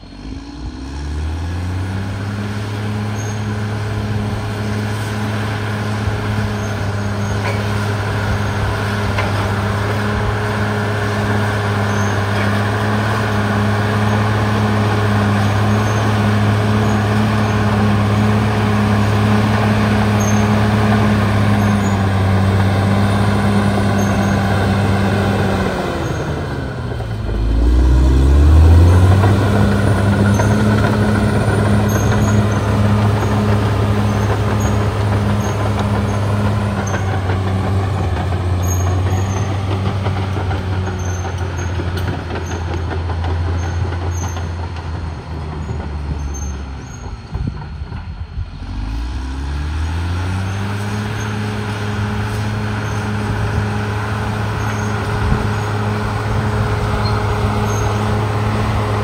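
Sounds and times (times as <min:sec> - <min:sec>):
bulldozer diesel engine revving: 0:00.0 - 0:59.0.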